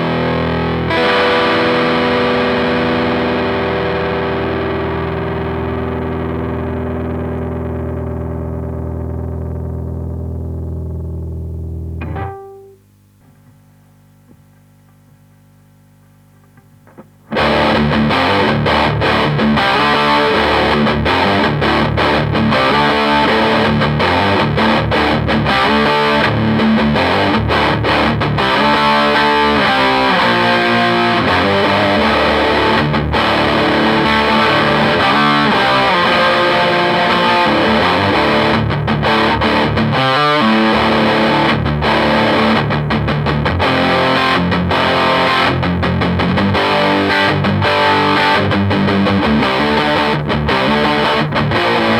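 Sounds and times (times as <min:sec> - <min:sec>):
distorted electric guitar: 0:00.0 - 0:13.5, 0:16.4 - 0:51.9.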